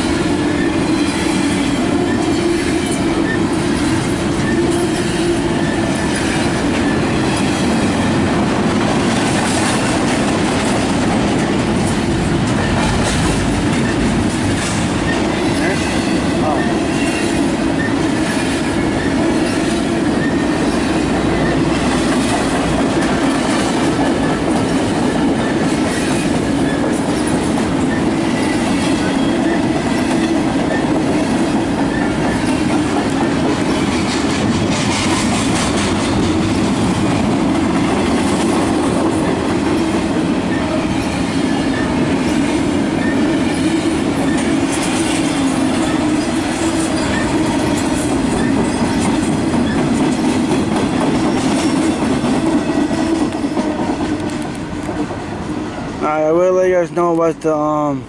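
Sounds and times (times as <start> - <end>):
wheels clicking on rail joints: 0.0 - 55.2
rail cars rumbling past: 0.0 - 58.0.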